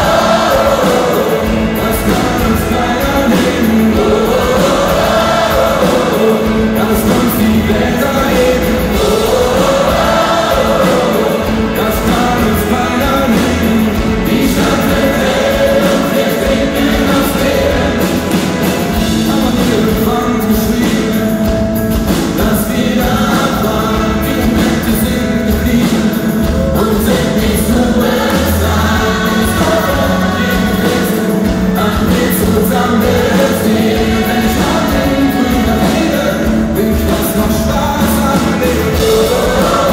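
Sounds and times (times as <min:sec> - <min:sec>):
gospel choir singing: 0:00.0 - 0:39.9
rock band playing: 0:00.0 - 0:39.9.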